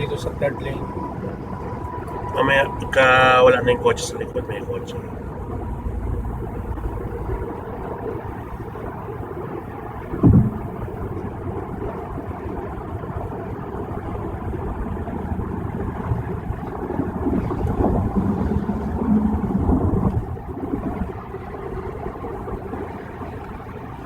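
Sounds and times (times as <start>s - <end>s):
tyre and engine rumble: 0.0s - 24.0s.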